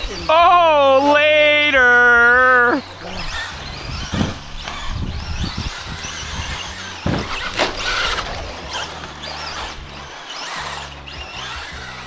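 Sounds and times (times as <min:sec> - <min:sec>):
rc truck electric motor whine: 0:00.0 - 0:12.0
tyres on gravel: 0:00.0 - 0:12.0.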